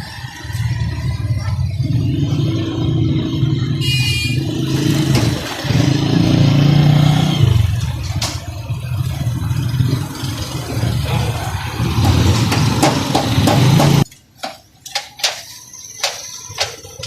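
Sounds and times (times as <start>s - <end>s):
vehicle engine revving: 0.0s - 14.1s.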